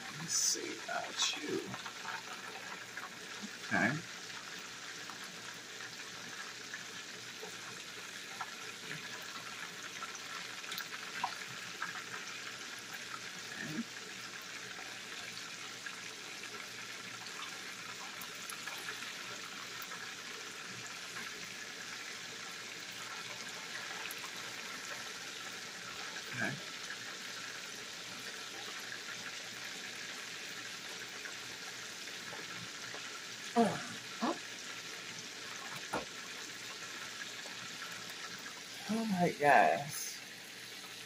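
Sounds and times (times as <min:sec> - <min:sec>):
chicken wings sizzling in oil: 0:00.0 - 0:41.0.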